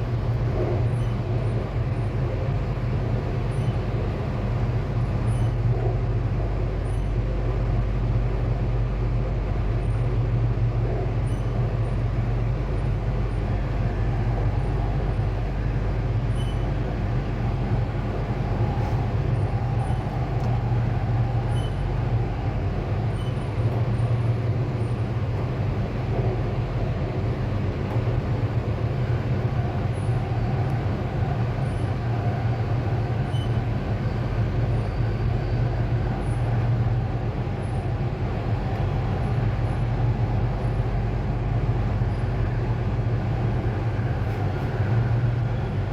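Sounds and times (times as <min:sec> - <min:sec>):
train wheels rumbling: 0:00.0 - 0:45.9.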